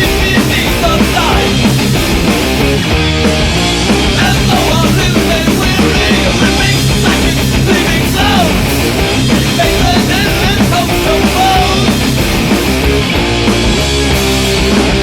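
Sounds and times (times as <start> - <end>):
distorted rock music: 0.0 - 15.0.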